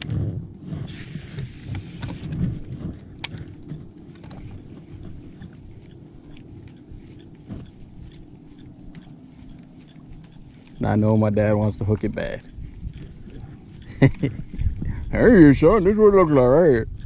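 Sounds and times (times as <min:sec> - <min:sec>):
fishing reel spool whirring: 0:00.0 - 0:17.0
low hum: 0:00.0 - 0:17.0
reel clicks and taps: 0:00.0 - 0:17.0.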